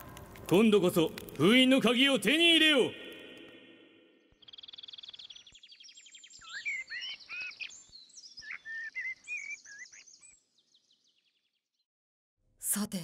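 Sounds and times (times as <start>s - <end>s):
songbirds chirping: 0.5s - 11.9s.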